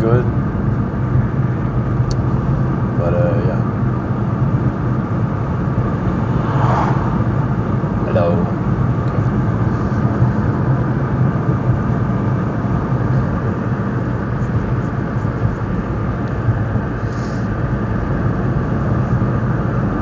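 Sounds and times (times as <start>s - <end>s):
road noise inside car: 0.0s - 20.0s
wind through open car window: 0.0s - 20.0s.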